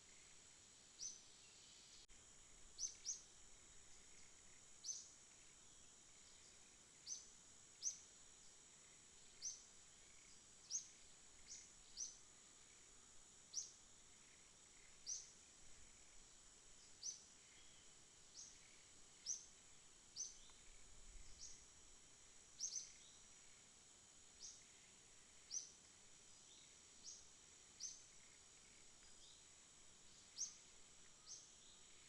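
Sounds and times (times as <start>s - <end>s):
high-pitched insect drone: 1.0s - 32.0s.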